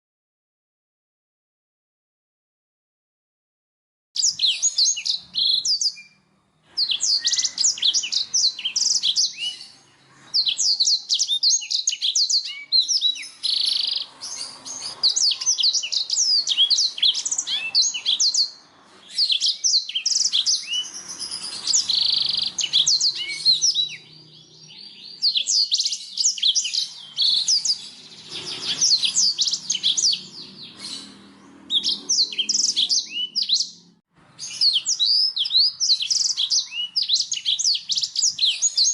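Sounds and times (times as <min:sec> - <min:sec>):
canary twittering song: 0:04.2 - 0:38.9.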